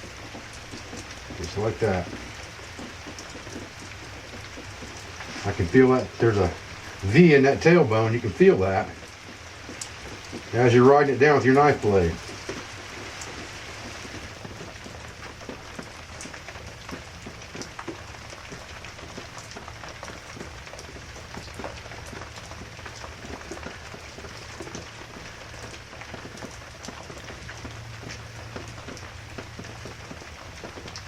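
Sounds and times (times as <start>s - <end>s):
rain pattering: 0.0s - 31.0s.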